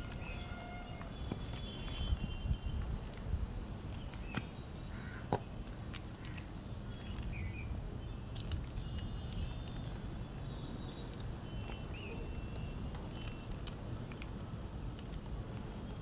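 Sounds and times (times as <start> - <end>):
chalk crunching: 3.0 - 16.0.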